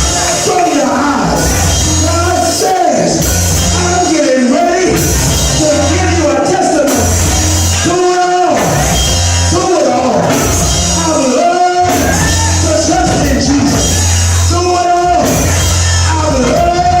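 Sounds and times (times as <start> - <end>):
drums: 0.0 - 17.0
pulsing bass line: 0.0 - 17.0.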